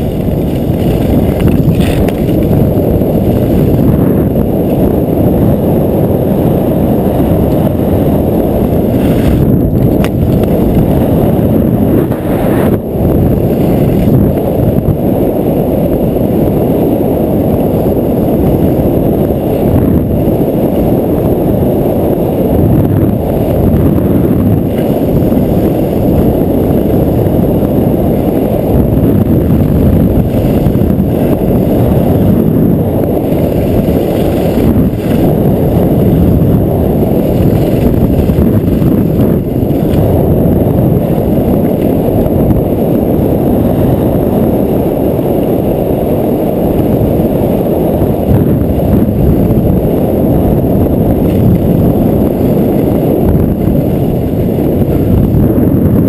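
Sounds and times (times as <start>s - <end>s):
skis running over snow: 0.0s - 56.0s
wind buffeting microphone: 0.0s - 56.0s.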